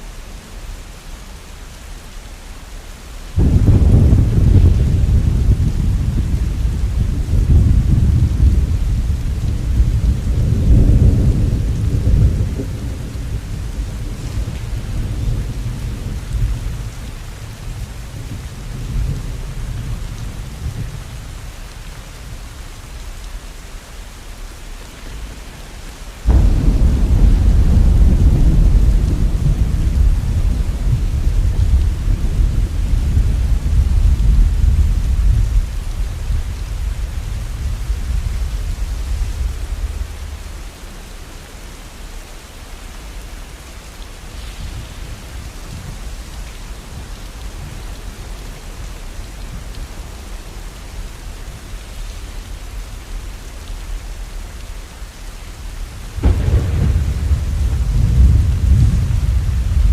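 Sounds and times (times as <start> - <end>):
steady rain: 0.0 - 59.9
low rolling thunder: 3.4 - 22.4, 25.2 - 41.6, 44.0 - 53.2, 55.7 - 59.9.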